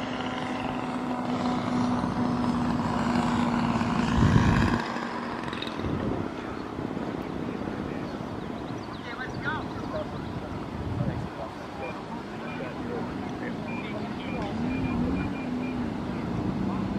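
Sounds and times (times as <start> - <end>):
model airplane engine drone: 0.0 - 16.9.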